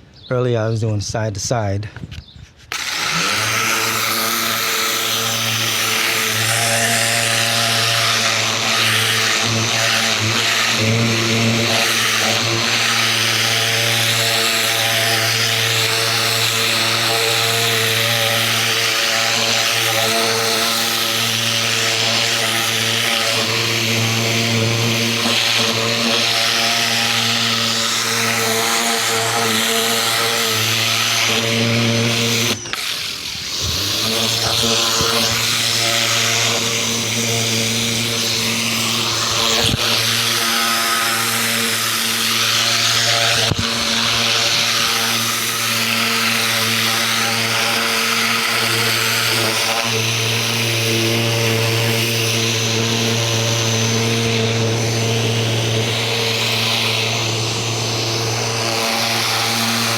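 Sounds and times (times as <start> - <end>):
pressure washer motor humming: 2.7 - 59.9.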